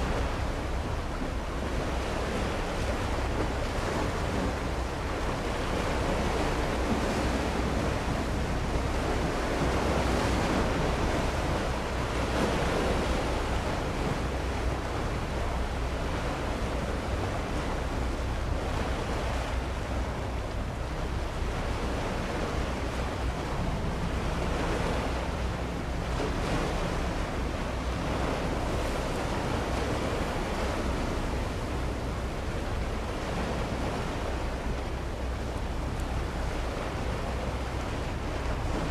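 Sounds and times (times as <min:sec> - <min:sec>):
steady low rumble: 0:00.0 - 0:38.9
waves washing against shore: 0:00.0 - 0:38.9
wind on microphone: 0:00.0 - 0:38.9.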